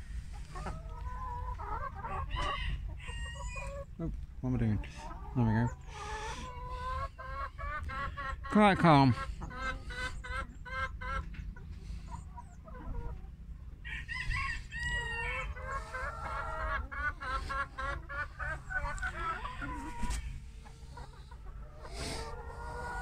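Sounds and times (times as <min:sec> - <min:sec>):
hens clucking and calling: 0:00.0 - 0:23.0.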